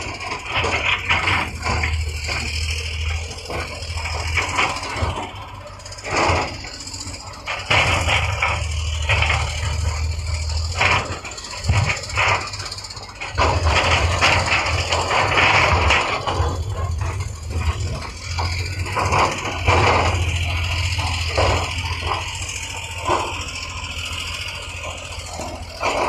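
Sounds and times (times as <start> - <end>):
diesel engine droning: 0.0 - 26.0
machine clanking and scraping: 0.0 - 26.0.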